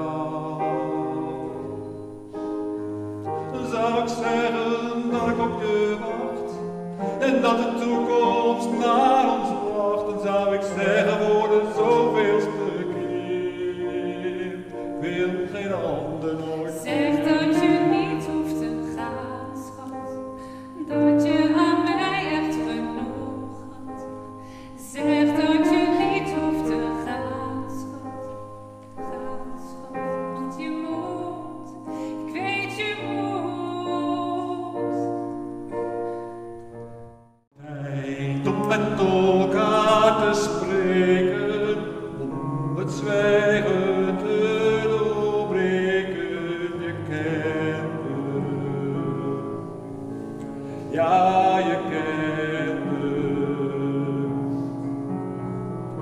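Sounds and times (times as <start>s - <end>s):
person singing: 0.0s - 35.9s, 37.6s - 55.2s
piano chords: 0.0s - 56.0s.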